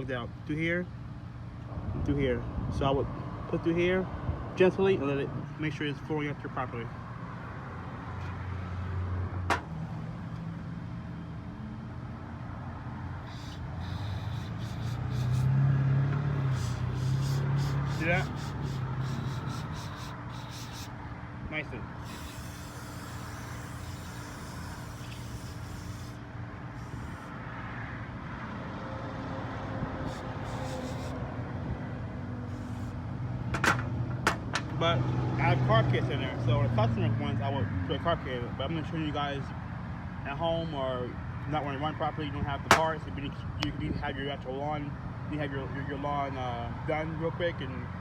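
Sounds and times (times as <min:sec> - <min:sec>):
low engine hum: 0:00.0 - 0:40.4.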